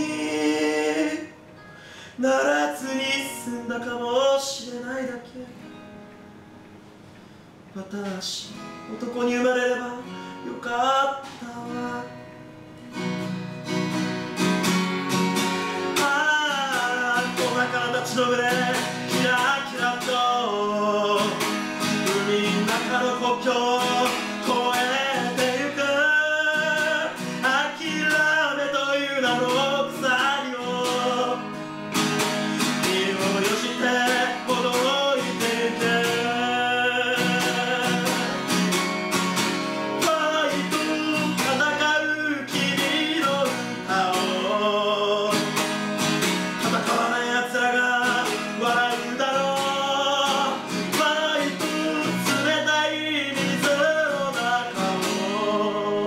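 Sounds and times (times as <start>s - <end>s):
man singing: 0.0s - 1.4s, 2.1s - 5.6s, 7.7s - 12.4s, 15.2s - 38.8s, 39.6s - 56.0s
acoustic guitar: 0.0s - 56.0s.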